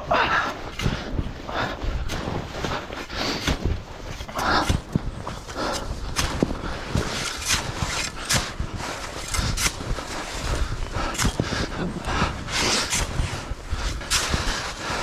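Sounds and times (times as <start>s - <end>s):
shovel digging snow: 2.0s - 15.0s.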